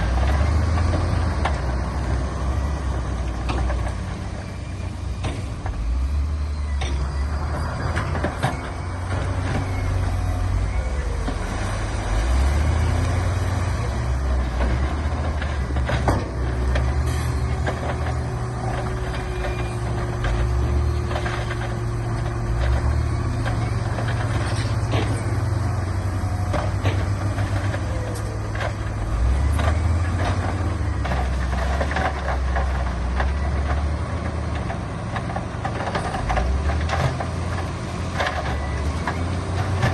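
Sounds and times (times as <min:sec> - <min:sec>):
diesel earthmoving machinery running: 0:00.0 - 0:39.9.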